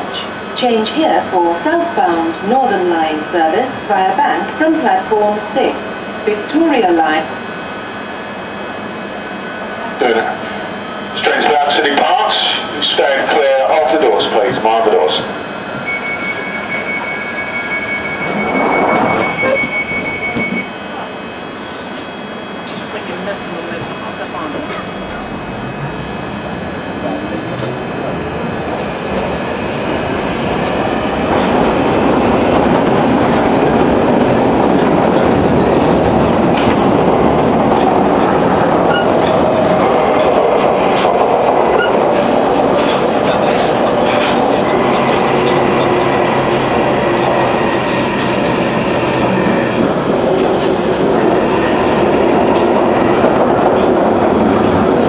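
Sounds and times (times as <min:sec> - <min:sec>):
train running rumble: 0:00.0 - 0:55.0.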